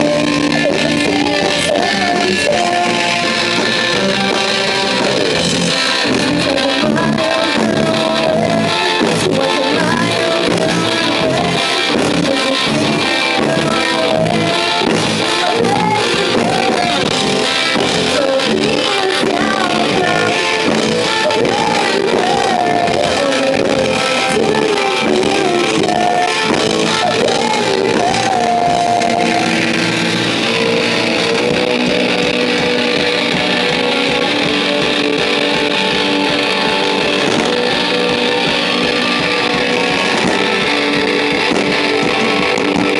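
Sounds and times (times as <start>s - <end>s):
drum kit: 0.0s - 42.9s
electric guitar: 0.0s - 42.9s
person singing: 0.0s - 42.9s.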